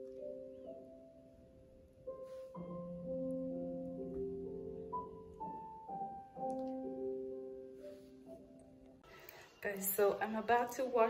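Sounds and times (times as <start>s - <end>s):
slow gentle piano music: 0.0s - 9.6s.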